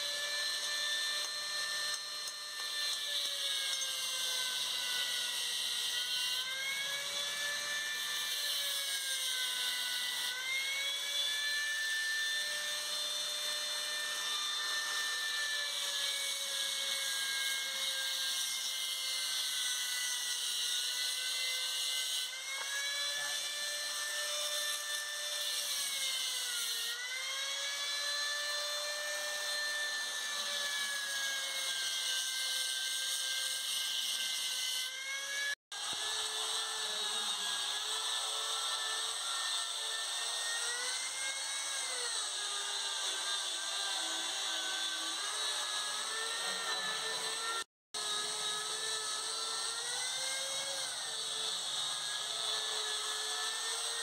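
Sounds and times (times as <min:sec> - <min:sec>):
electric power tool whining: 0:00.0 - 0:54.0.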